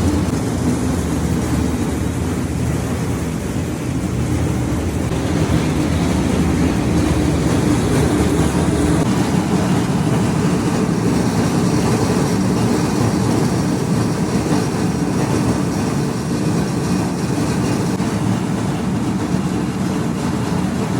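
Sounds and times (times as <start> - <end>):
machinery rumble: 0.0 - 20.9.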